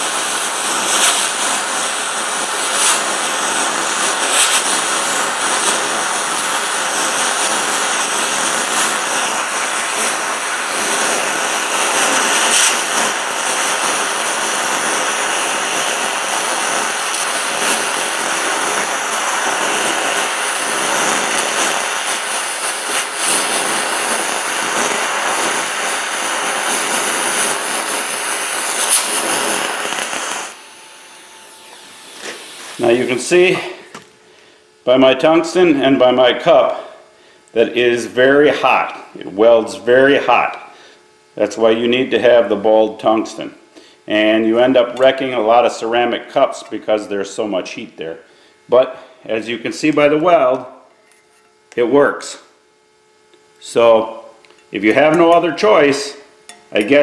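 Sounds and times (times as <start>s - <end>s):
welding arc popping: 0.0s - 36.9s, 44.1s - 47.8s, 48.7s - 57.0s
welding arc hissing: 0.0s - 52.6s, 53.2s - 57.0s.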